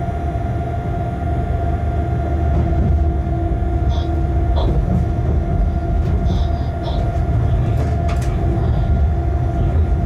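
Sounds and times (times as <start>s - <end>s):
locomotive rolling rumble: 0.0s - 10.0s.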